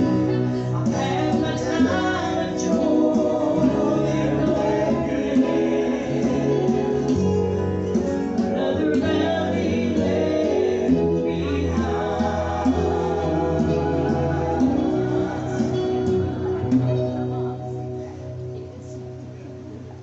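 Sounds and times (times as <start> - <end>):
group singing gospel in harmony: 0.0 - 18.0
guitar accompaniment: 0.0 - 20.0
low bass line: 0.0 - 20.0.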